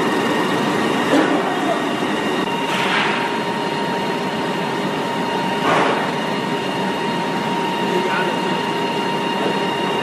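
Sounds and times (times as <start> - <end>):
high mechanical whine: 0.0 - 10.0
printing press running: 0.0 - 10.0.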